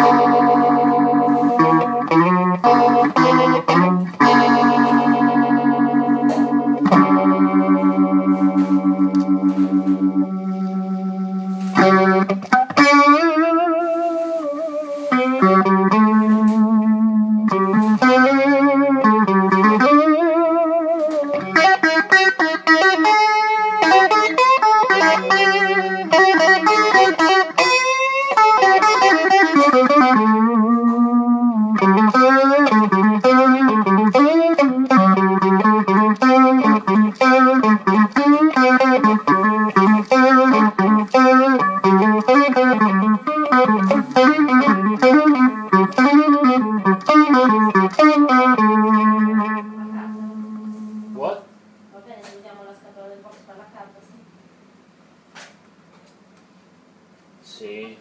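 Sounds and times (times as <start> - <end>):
guitar with effects: 0.0 - 52.6.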